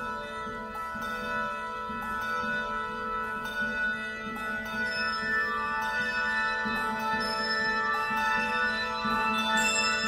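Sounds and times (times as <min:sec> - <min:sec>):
handbell choir ringing: 0:00.0 - 0:10.0.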